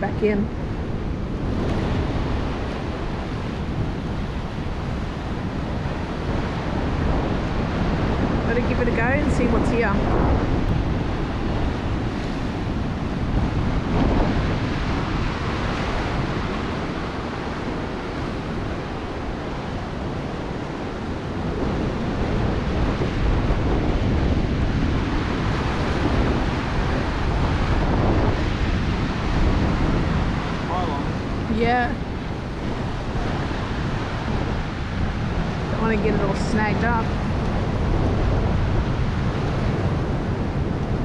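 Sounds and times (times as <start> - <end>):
surf breaking: 0.0 - 41.0
wind buffeting microphone: 0.0 - 41.0.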